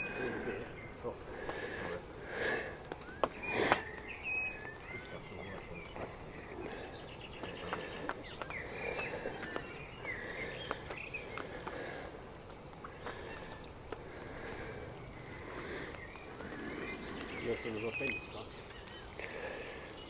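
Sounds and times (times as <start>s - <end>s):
songbirds chirping: 0.0s - 20.0s
steady outdoor hiss: 0.0s - 20.0s.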